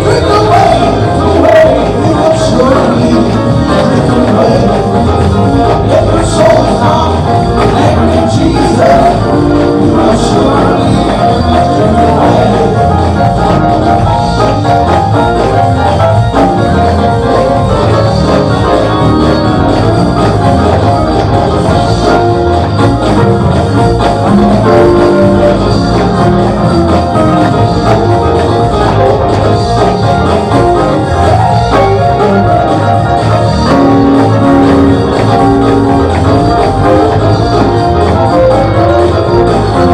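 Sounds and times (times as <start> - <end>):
bass line: 0.0 - 39.9
drum kit: 0.0 - 39.9
instrumental band music: 0.0 - 39.9
keyboard chords: 0.0 - 39.9.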